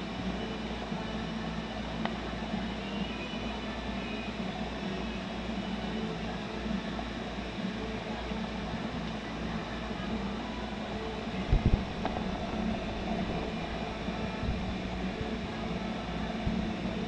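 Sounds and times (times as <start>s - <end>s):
aquarium pump hum: 0.0s - 17.0s.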